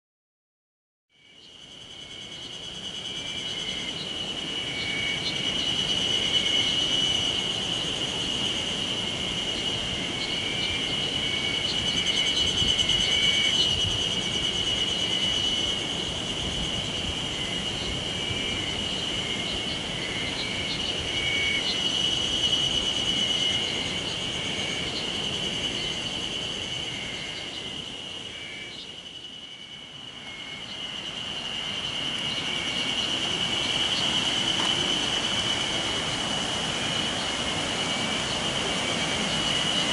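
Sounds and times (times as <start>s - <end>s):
cicadas singing in chorus: 1.1s - 39.9s
faint pulsing insect calls: 1.1s - 39.9s.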